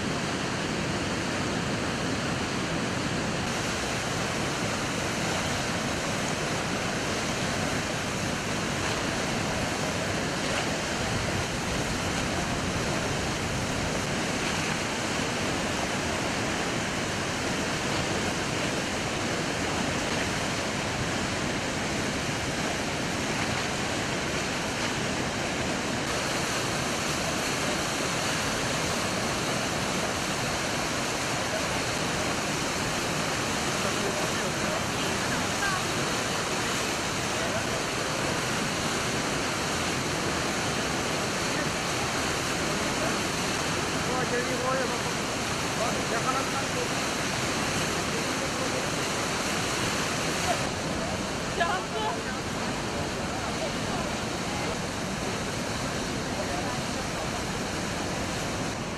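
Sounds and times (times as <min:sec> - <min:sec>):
waterfall roaring: 0:00.0 - 0:58.9.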